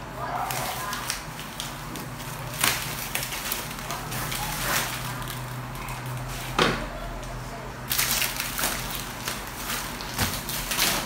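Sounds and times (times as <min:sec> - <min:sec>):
plastic wrapping crinkling: 0:00.2 - 0:06.6, 0:07.9 - 0:11.0.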